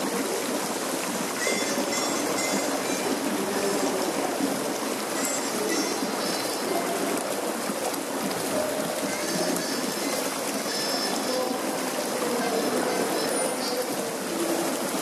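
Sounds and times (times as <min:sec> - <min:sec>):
water pouring and splashing: 0:00.0 - 0:15.0.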